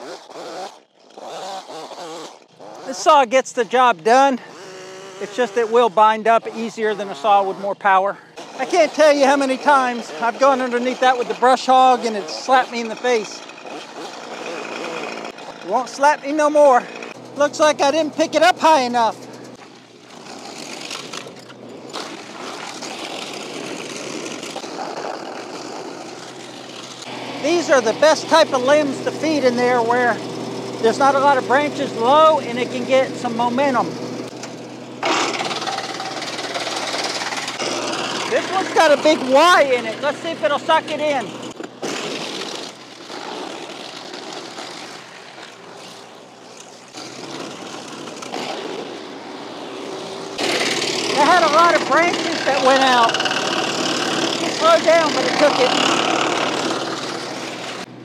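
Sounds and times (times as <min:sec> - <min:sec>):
tractor engine running: 0:00.0 - 0:58.0
wood chipper grinding limb: 0:00.0 - 0:58.0.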